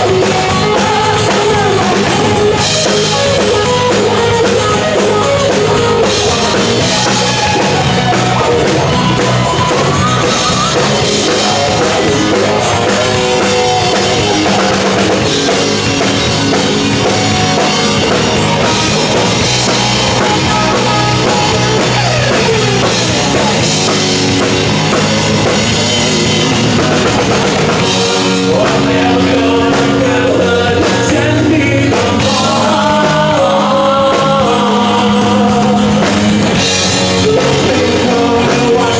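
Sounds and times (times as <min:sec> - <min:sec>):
person singing: 0:00.0 - 0:24.0, 0:27.8 - 0:38.9
drum kit: 0:00.0 - 0:38.9
guitar: 0:00.0 - 0:38.9.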